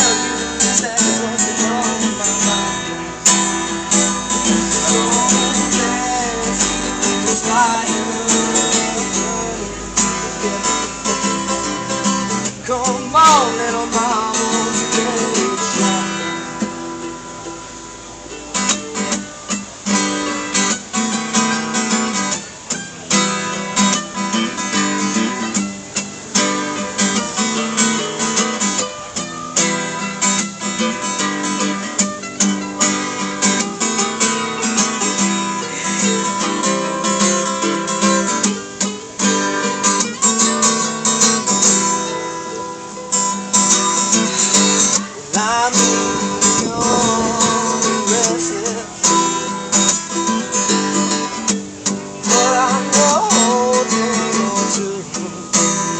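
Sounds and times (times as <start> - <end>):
strummed acoustic guitar: 0.0 - 55.9.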